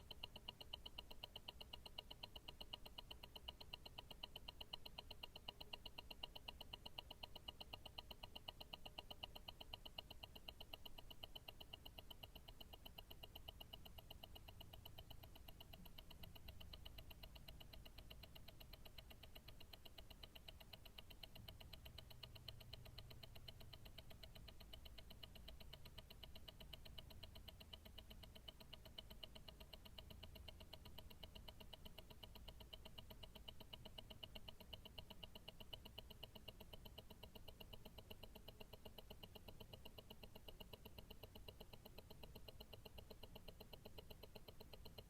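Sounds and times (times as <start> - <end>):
watch ticking: 0.0 - 45.0.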